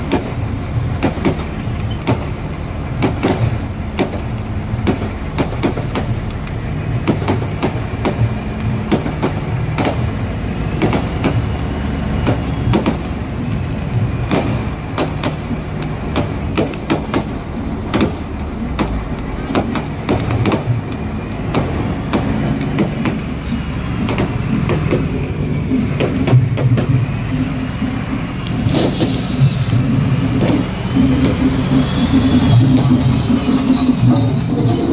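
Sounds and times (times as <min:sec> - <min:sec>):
fireworks bangs and crackles: 0:00.0 - 0:34.9
steady low rumble: 0:00.0 - 0:34.9.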